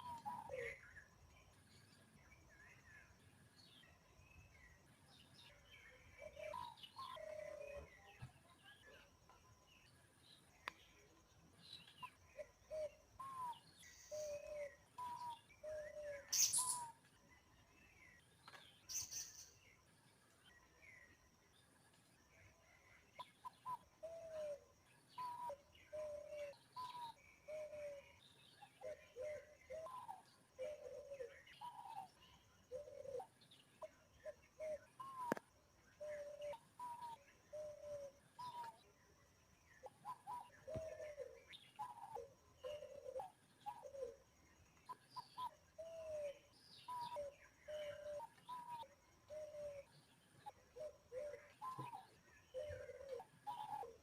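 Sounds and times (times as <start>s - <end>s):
birds chirping and calling: 0.0s - 2.5s, 4.4s - 8.2s, 11.7s - 17.1s, 17.7s - 19.7s, 22.8s - 54.0s.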